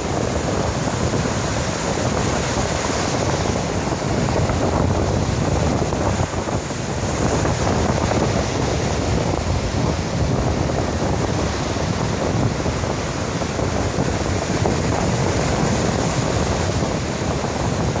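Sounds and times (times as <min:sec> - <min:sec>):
surf breaking on a beach: 0:00.0 - 0:18.0
wind buffeting microphone: 0:00.0 - 0:18.0.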